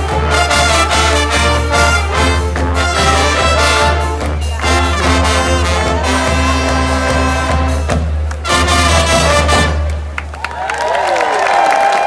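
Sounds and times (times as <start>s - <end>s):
trumpets and trombones: 0.0s - 10.2s
brass band playing: 0.0s - 10.3s.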